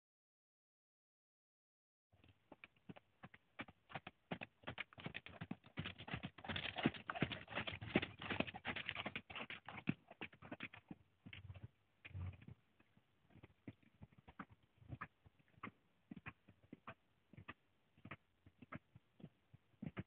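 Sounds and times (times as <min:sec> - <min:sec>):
horse hoofbeats on sand: 0:02.2 - 0:12.6, 0:13.3 - 0:20.0.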